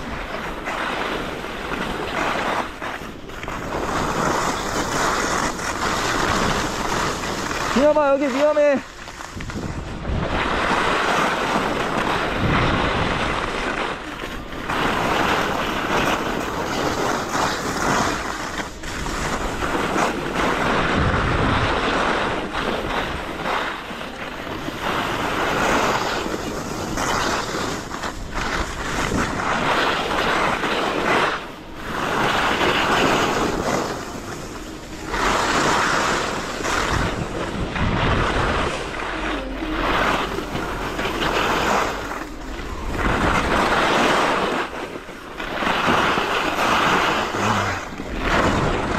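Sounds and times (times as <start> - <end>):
skis scraping snow: 0.0 - 48.9
wind rushing over microphone: 0.0 - 48.9.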